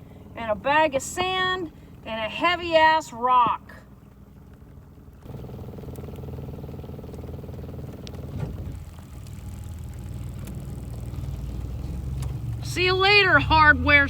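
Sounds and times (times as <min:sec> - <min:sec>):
vehicle engine drone from inside: 0:00.0 - 0:14.0.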